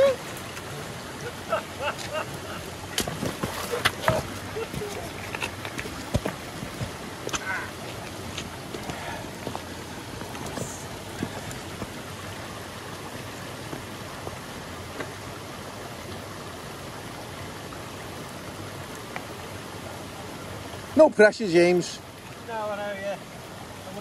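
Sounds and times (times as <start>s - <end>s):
stream running over stones: 0.0s - 24.0s.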